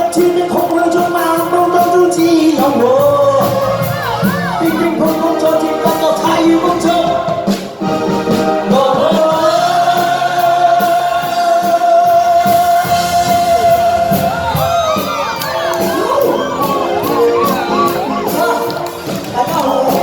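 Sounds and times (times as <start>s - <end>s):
backing track music: 0.0s - 20.0s
person singing pop song: 0.0s - 20.0s.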